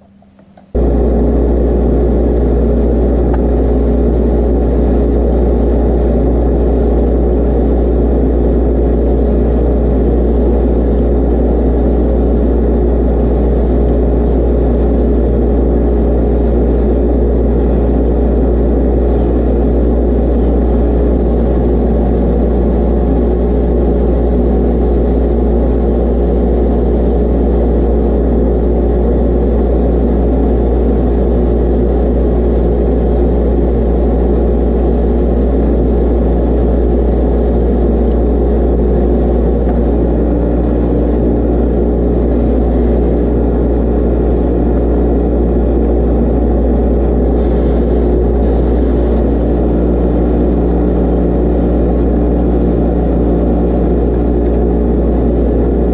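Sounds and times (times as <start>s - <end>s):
exhaust fan droning: 0.0s - 55.9s
airbrush hissing: 1.6s - 41.3s, 47.4s - 54.2s.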